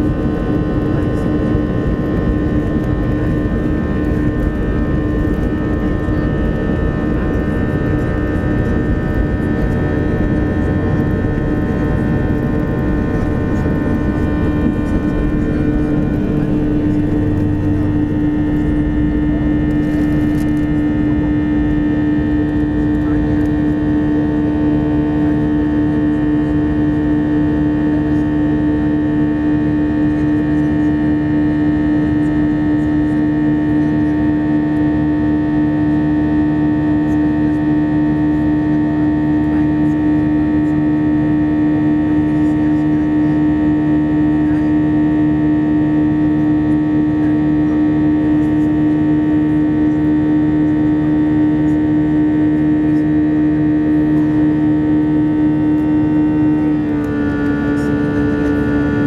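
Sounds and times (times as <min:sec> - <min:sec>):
jet engine drone in cabin: 0:00.0 - 0:59.0.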